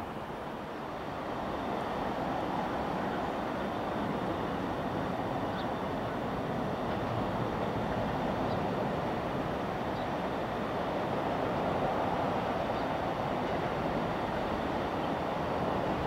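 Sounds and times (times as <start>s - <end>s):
distant train rumble: 0.0s - 16.0s.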